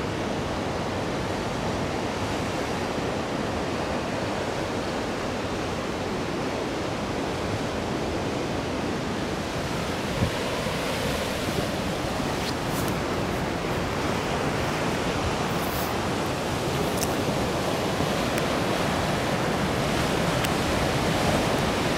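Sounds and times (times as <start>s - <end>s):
surf washing over rocks: 0.0s - 21.9s.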